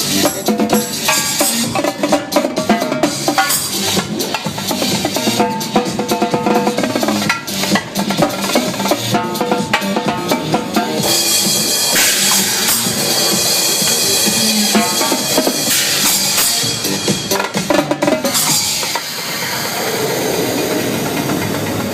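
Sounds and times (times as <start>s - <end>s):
drum kit played live: 0.0s - 21.9s
electronic dance track: 0.0s - 21.9s.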